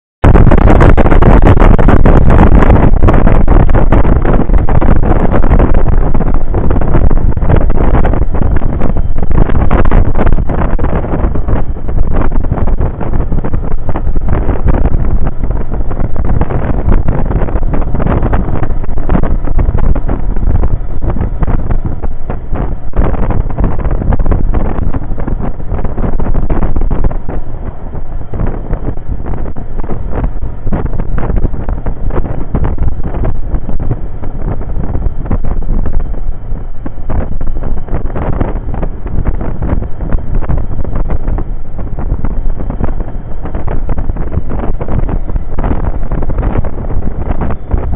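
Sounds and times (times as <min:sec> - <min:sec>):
wind buffeting on microphone: 0:00.2 - 0:47.9.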